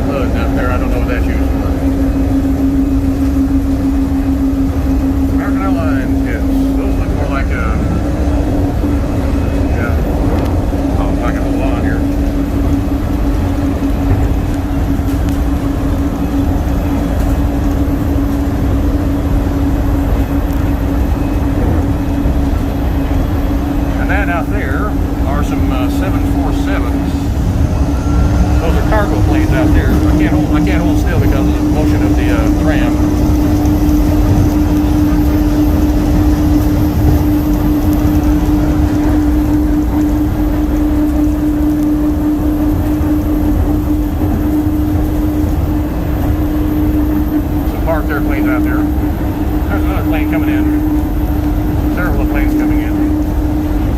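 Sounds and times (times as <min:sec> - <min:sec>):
train rumbling on guideway: 0:00.0 - 0:53.9.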